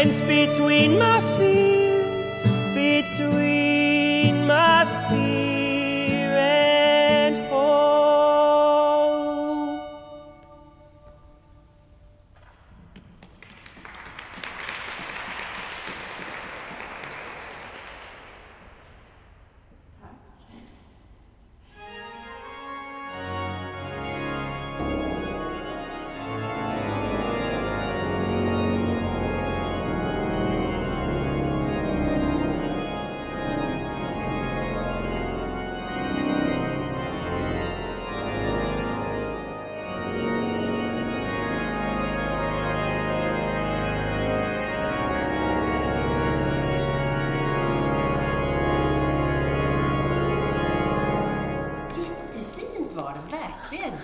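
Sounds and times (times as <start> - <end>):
organ playing sustained chords: 0.0 - 19.2, 21.6 - 53.8.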